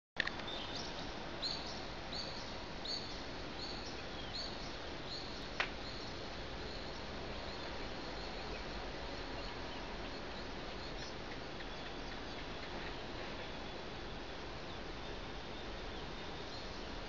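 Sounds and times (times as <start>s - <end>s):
steady hiss: 0.2s - 17.0s
bird chirping: 0.4s - 13.0s, 14.6s - 17.0s.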